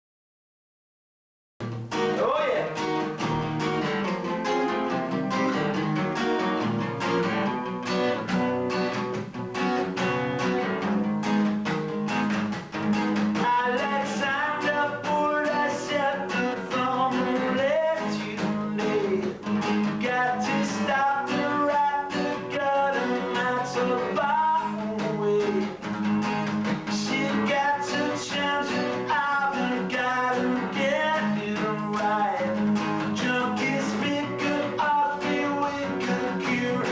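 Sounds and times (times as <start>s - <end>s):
strummed acoustic guitar: 1.6s - 36.9s.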